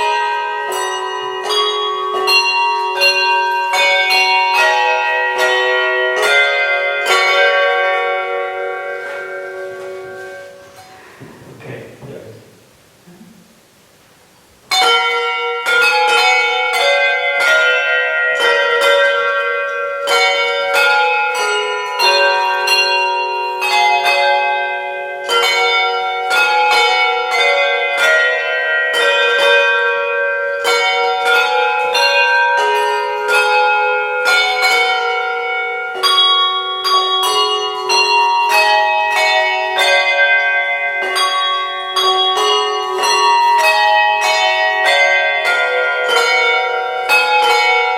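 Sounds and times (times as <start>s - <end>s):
handbells playing a tune: 0.0s - 11.2s, 14.7s - 47.9s.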